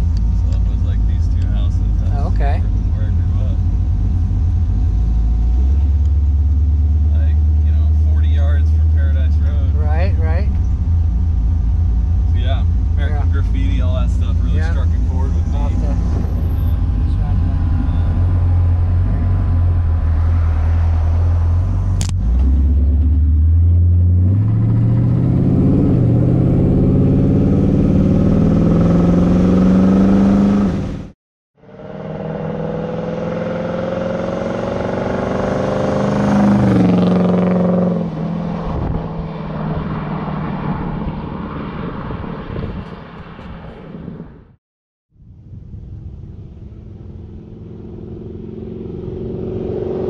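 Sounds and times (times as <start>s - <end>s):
car engine revving: 0.0s - 44.2s, 46.1s - 50.0s.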